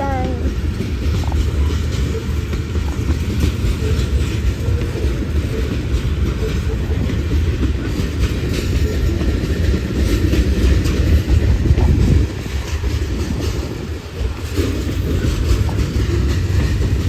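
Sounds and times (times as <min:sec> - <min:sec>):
freight train rumbling past: 0:00.0 - 0:17.0
train wheels clicking on rails: 0:00.0 - 0:17.0.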